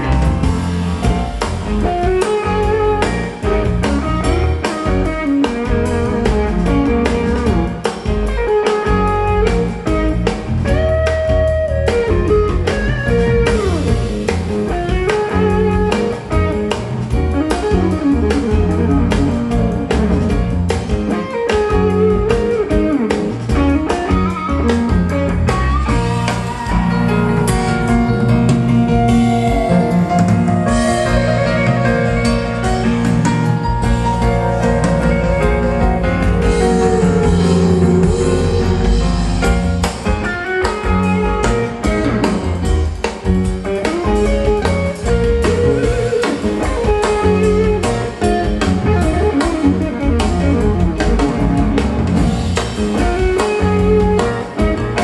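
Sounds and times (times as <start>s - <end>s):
guitar band music through speakers: 0.0s - 55.0s.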